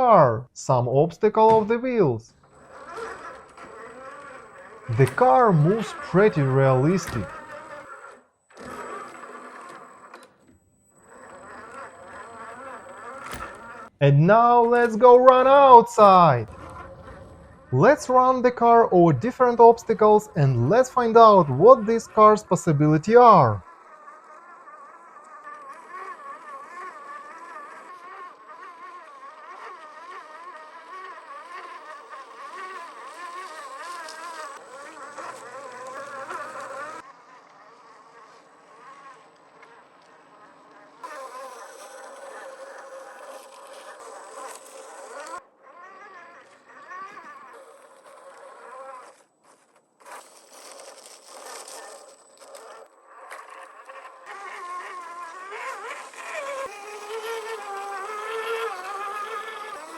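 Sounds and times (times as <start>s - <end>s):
electric motor and gear whine: 0.0s - 59.9s.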